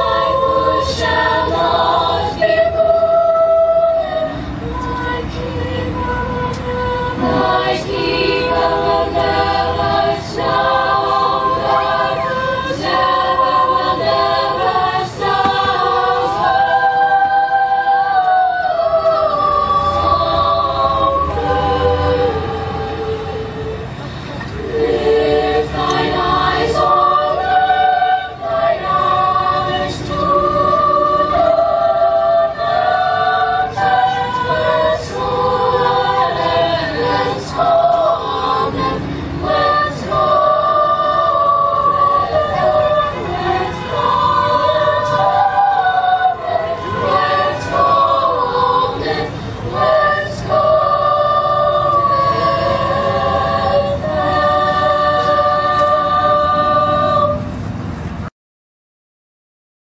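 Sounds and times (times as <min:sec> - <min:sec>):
youth choir singing: 0:00.0 - 0:58.0.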